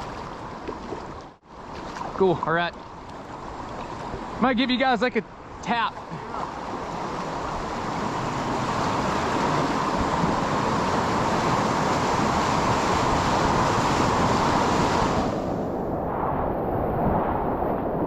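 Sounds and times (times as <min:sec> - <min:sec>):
water rushing in a creek: 0:00.0 - 0:15.5.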